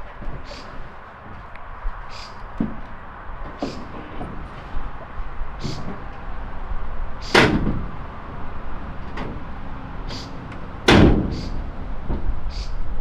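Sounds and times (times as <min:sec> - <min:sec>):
truck doors slamming: 0:00.0 - 0:13.0.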